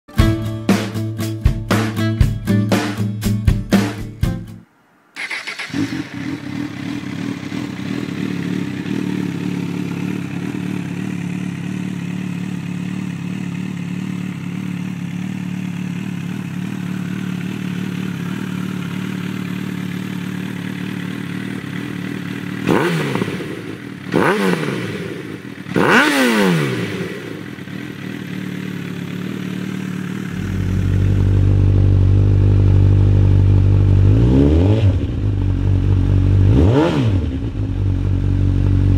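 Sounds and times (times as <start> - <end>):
motorcycle engine idling: 5.2 - 34.2, 34.9 - 36.5, 37.2 - 38.9
motorcycle engine revving: 5.2 - 38.9.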